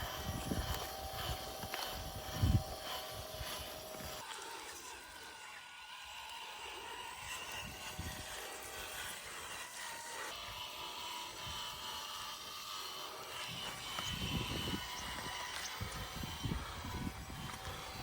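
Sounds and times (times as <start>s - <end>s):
small motor whining: 0.0s - 18.0s.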